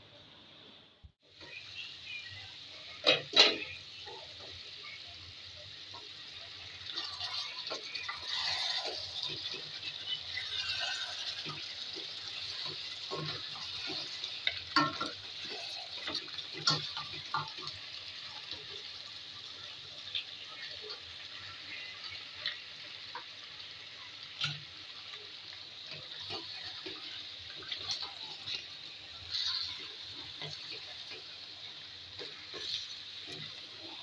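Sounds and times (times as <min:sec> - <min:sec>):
beef sizzling in a pot: 0:01.2 - 0:34.0.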